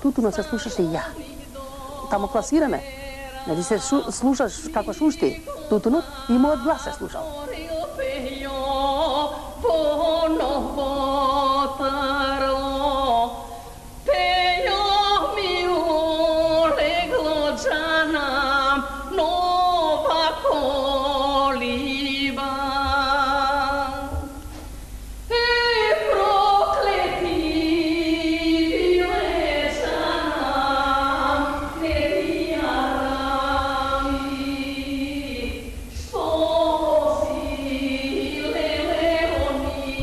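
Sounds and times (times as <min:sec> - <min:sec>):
woman singing folk song: 0:00.0 - 0:24.6, 0:25.3 - 0:40.0.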